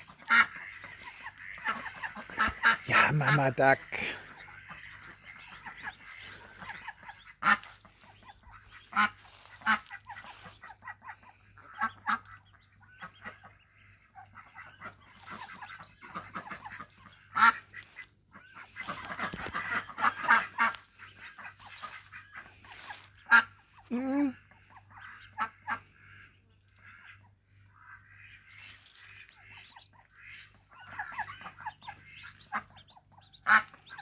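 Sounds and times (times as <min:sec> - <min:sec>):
ducks quacking: 0:00.0 - 0:34.0.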